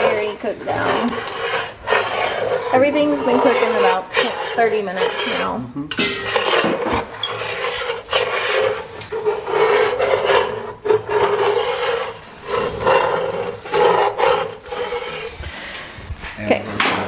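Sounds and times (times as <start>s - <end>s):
metal utensil scraping a pot: 0.0s - 15.6s.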